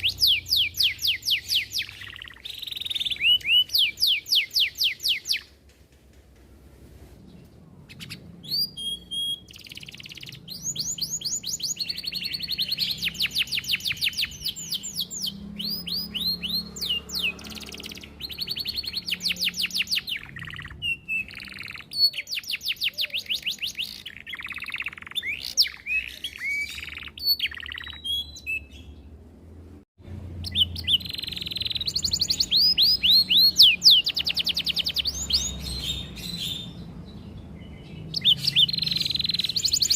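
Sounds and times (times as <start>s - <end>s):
canary singing trills: 0.0s - 5.6s, 7.8s - 29.2s, 30.3s - 39.9s.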